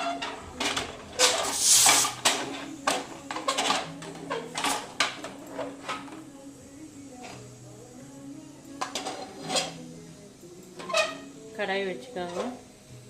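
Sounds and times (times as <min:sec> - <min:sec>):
hiss: 0:00.0 - 0:13.0.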